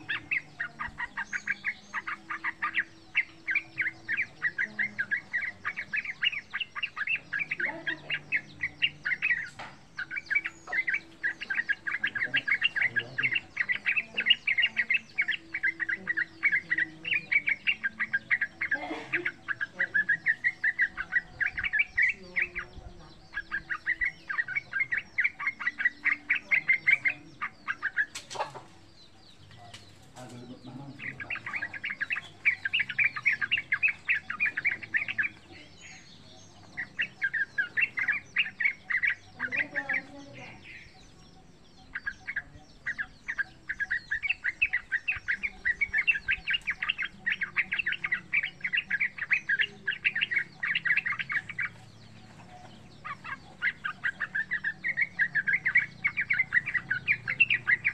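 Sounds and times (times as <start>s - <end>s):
bird singing chattering runs: 0.0s - 57.9s.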